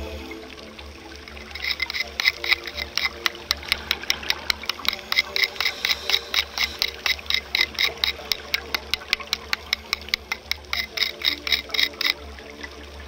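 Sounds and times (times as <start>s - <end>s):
underwater scraping strokes: 1.4s - 12.2s.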